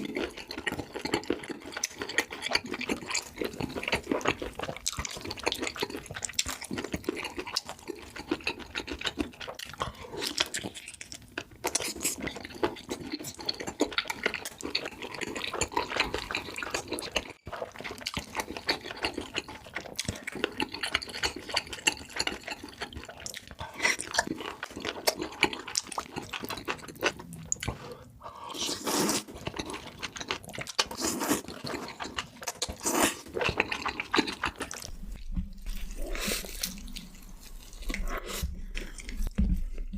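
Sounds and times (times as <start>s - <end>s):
wet chewing and smacking: 0.0s - 28.1s, 28.7s - 39.9s.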